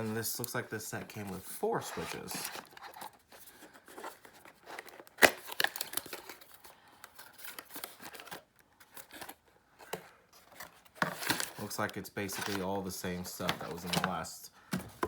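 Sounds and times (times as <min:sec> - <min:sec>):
packaging rustling: 0:00.0 - 0:14.3.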